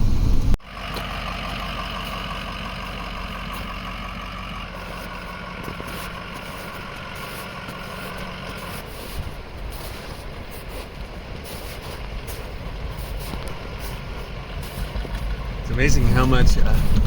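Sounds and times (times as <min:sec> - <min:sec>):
loud low rumble: 0:00.0 - 0:09.8, 0:12.0 - 0:17.0
truck engine running: 0:00.0 - 0:17.0.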